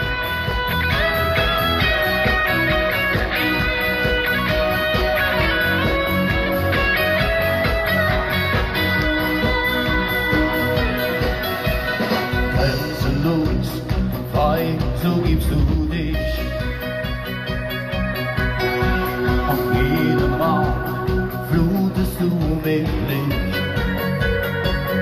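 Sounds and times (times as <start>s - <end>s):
electric guitar: 0.0s - 25.0s
keyboards: 0.0s - 25.0s
steady drum beat: 0.0s - 25.0s.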